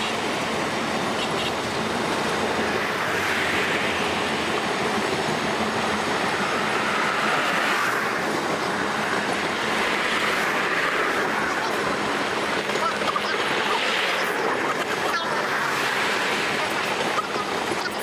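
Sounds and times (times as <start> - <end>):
steel wheels on rail: 0.0 - 18.0.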